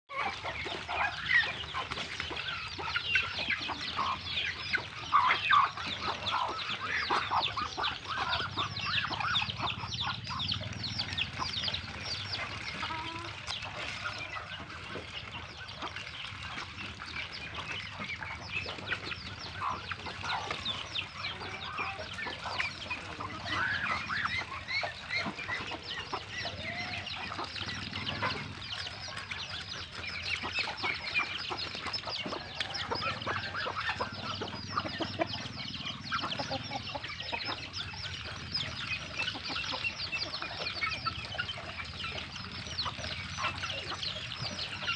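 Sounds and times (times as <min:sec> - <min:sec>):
chickens clucking and cheeping: 0:00.1 - 0:44.9.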